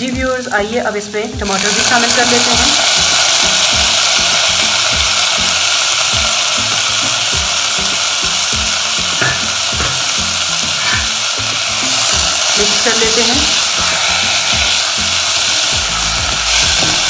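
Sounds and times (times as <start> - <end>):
background music with low notes: 0.0 - 17.0
vegetables sizzling in oil: 0.0 - 17.0.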